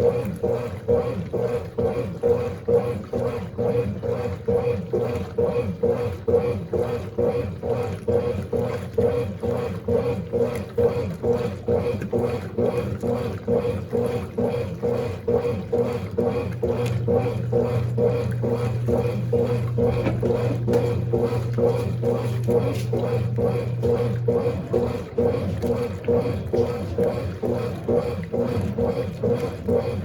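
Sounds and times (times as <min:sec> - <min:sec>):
agitator churning: 0:00.0 - 0:30.0
washing machine motor humming: 0:00.0 - 0:30.0.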